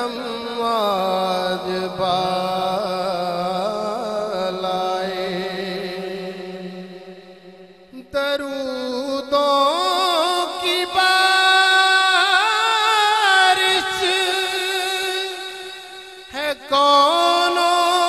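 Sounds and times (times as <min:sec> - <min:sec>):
man singing devotional song: 0:00.0 - 0:18.0.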